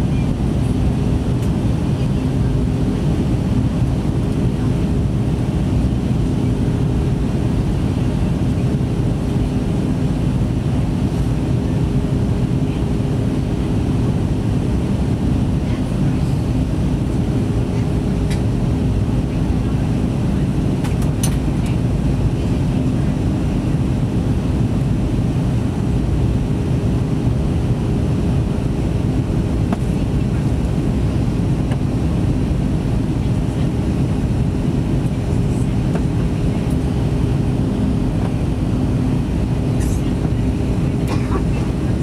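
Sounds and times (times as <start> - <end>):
airflow and jet engine rumble: 0.0 - 42.0
steady hums: 0.0 - 42.0.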